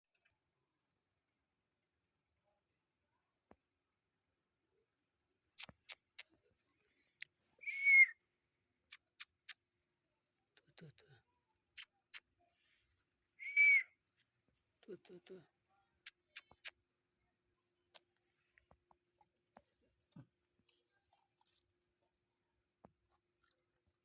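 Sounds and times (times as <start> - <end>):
crickets trilling: 0.1 - 24.0.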